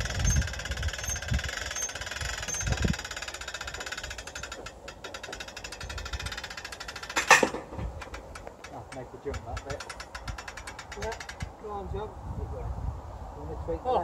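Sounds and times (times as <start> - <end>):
hand-cranked winch clicking: 0.0 - 11.6.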